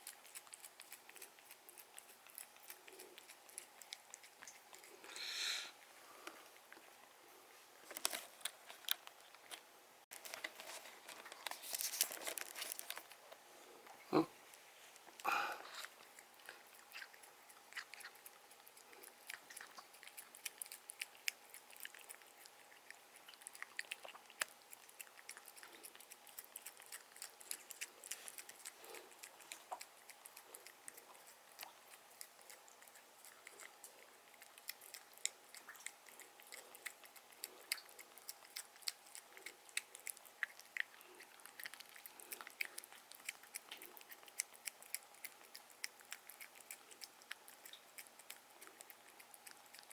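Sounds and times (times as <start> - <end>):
cat chewing food: 0.0 - 49.9.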